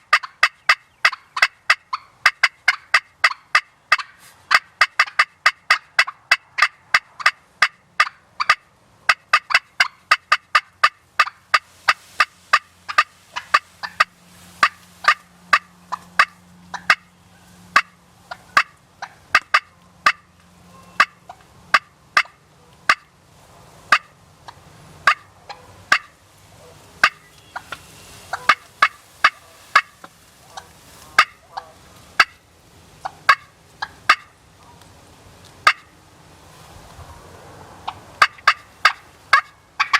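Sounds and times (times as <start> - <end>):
turkey clucking: 0.0 - 23.2, 23.9 - 34.9, 35.5 - 36.0, 37.8 - 39.9.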